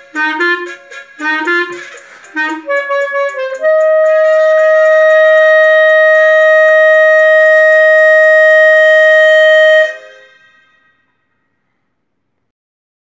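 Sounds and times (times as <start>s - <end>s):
clarinet holding a high note: 0.0s - 11.3s.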